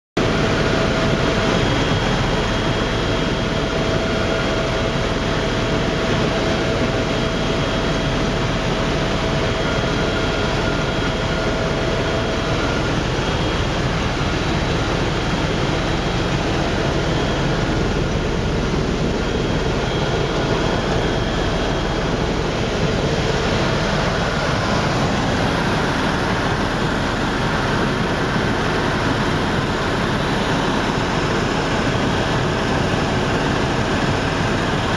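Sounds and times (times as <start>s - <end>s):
helicopter turbine and rotor noise: 0.2s - 34.9s.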